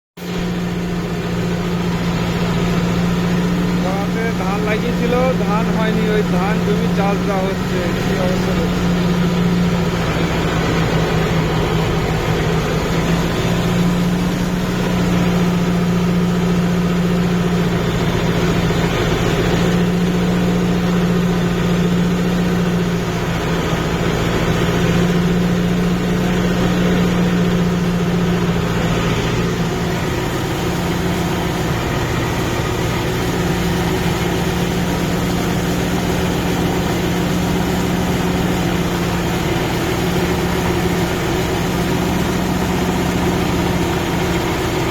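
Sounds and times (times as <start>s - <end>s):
tractor diesel engine running: 0.2s - 44.9s.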